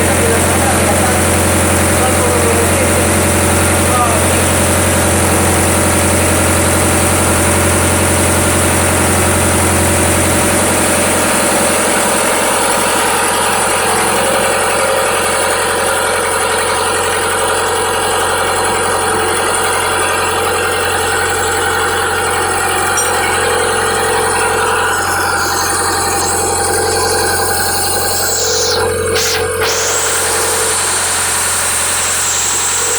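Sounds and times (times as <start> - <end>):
diesel generator engine running: 0.0 - 32.9.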